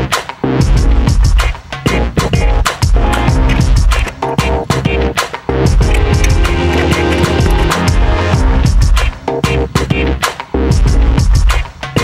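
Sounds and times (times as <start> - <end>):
electronic music with drum beat: 0.0 - 12.0.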